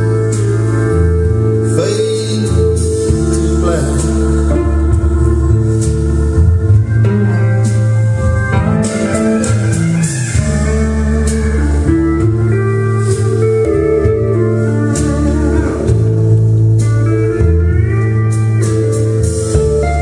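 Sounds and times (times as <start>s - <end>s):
bass line: 0.0s - 20.0s
guitar-led music: 0.0s - 20.0s.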